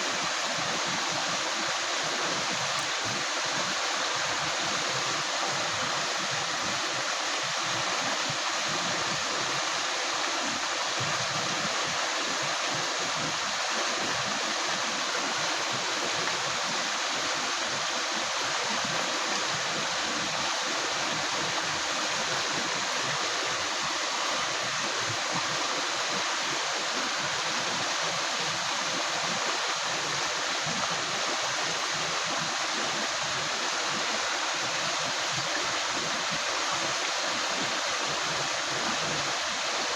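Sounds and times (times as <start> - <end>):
river water gurgling over rocks: 0.0 - 39.9.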